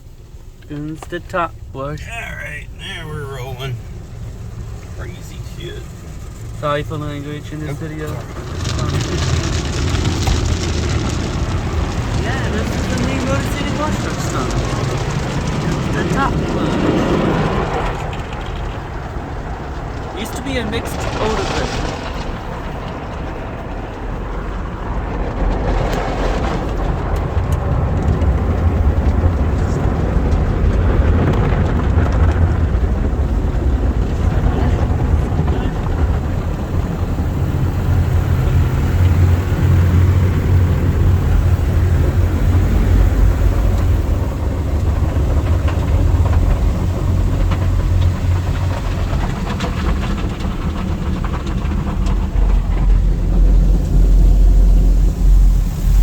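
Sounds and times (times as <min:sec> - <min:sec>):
low steady rumble: 0:00.0 - 0:56.0.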